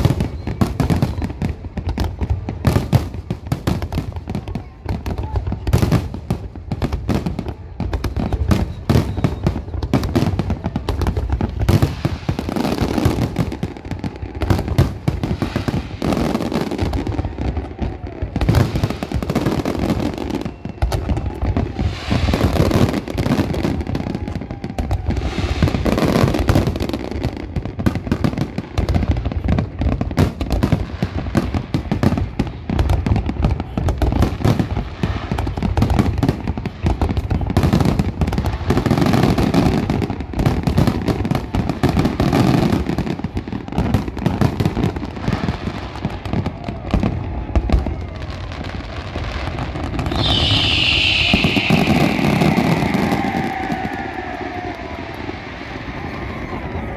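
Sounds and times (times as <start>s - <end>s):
fireworks bursts and crackling: 0.0s - 56.9s.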